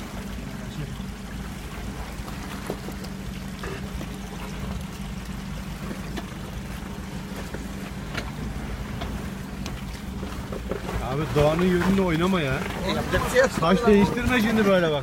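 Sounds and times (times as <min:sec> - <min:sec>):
creek water trickling and splashing: 0:00.0 - 0:15.0.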